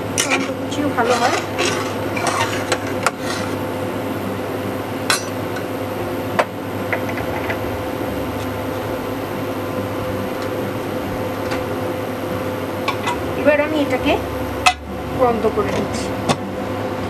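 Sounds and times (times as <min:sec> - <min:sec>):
electric cooktop hum: 0:00.0 - 0:17.0
pot bubbling and hissing: 0:00.0 - 0:17.0.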